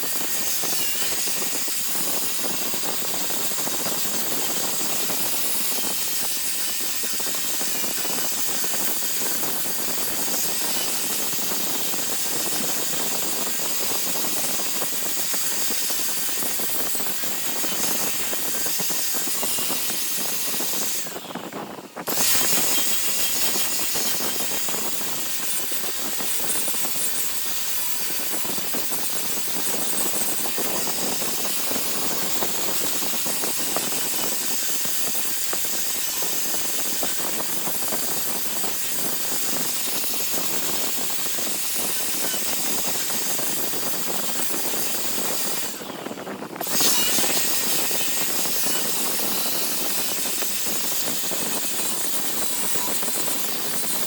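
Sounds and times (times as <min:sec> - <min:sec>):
wood lathe hissing: 0:00.0 - 0:54.0.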